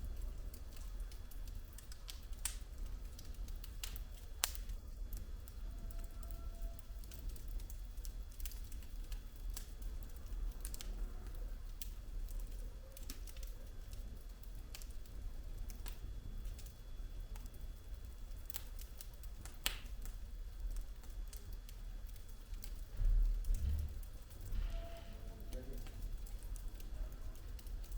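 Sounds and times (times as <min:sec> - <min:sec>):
logs crackling in fireplace: 0:00.0 - 0:27.9.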